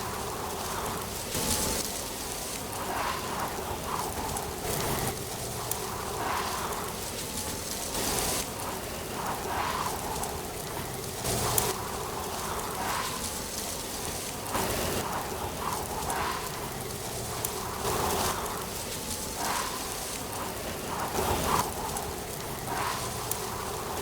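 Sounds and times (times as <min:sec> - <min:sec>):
wind gusting through trees: 0:00.0 - 0:24.0.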